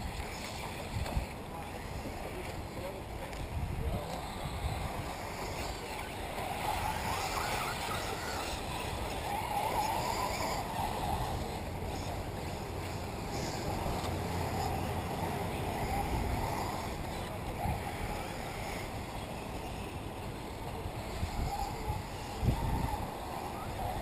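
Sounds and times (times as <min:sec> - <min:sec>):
model car motors whining: 0:00.0 - 0:24.0
wind on microphone: 0:00.0 - 0:24.0.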